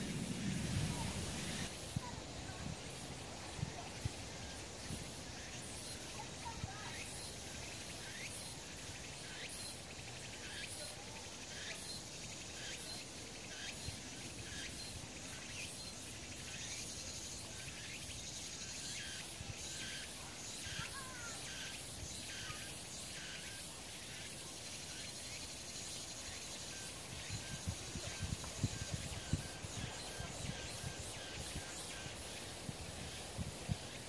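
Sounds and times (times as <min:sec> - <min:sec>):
cicadas buzzing: 0:00.0 - 0:34.0.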